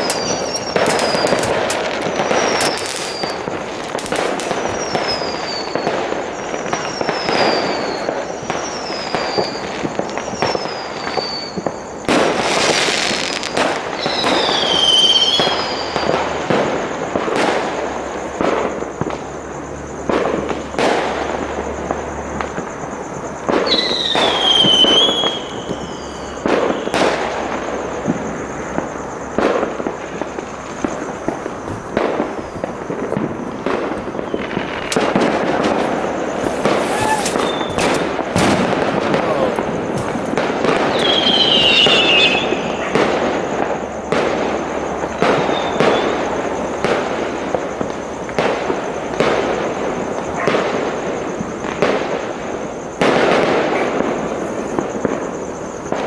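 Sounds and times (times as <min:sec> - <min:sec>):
falling firework whistles: 0:00.0 - 0:56.0
fireworks bangs: 0:00.0 - 0:56.0
fireworks crackle: 0:00.0 - 0:56.0.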